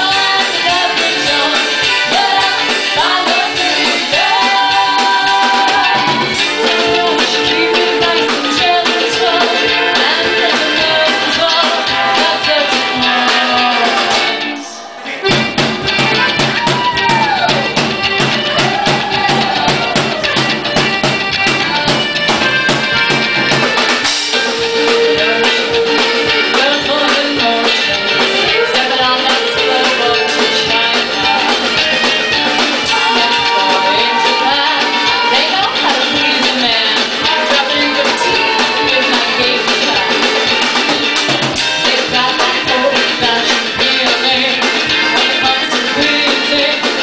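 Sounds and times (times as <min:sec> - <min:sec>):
women singing: 0:00.0 - 0:15.0, 0:24.4 - 0:47.0
drum kit: 0:00.0 - 0:47.0.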